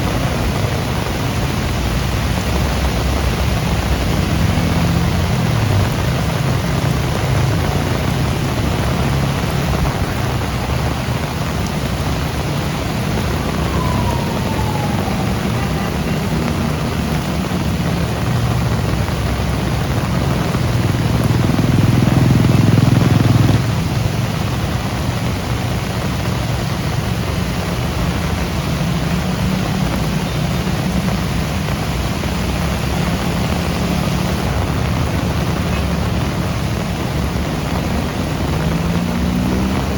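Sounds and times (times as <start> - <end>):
heavy rain falling: 0.0 - 39.9
road traffic rumble: 0.0 - 39.9.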